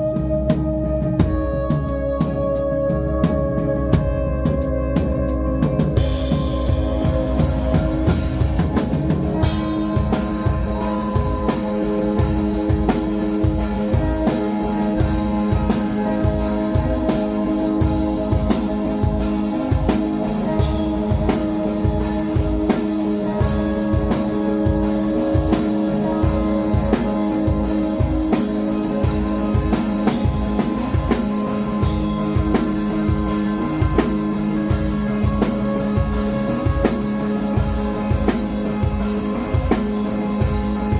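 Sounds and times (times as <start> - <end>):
drum kit steady beat: 0.0 - 40.9
sustained instrumental notes: 0.0 - 40.9.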